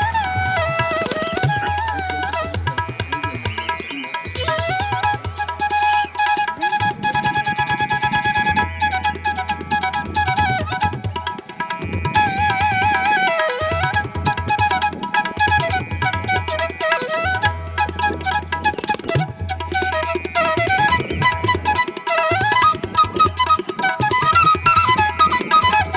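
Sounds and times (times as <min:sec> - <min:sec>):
hand-drum rhythm: 0:00.0 - 0:25.9.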